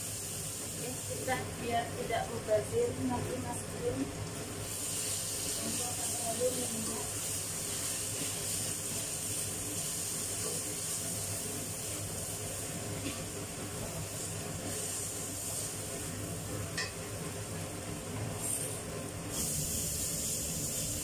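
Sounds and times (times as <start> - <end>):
spice paste sizzling in oil: 0.0 - 21.0.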